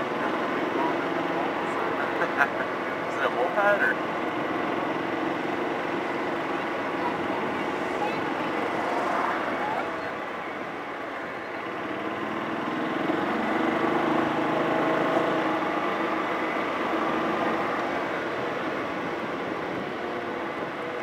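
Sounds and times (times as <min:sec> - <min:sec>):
road and wind noise: 0:00.0 - 0:21.0
vehicle engine running: 0:00.0 - 0:21.0.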